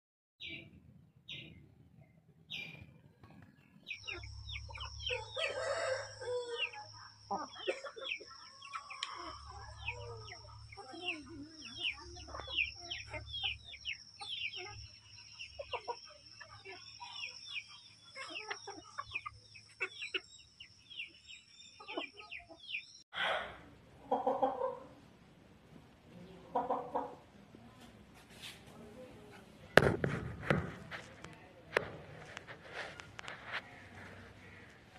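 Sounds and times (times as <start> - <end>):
chickens chirping and calling: 0.4 - 27.4, 31.8 - 34.9
chickens clucking: 2.5 - 34.9.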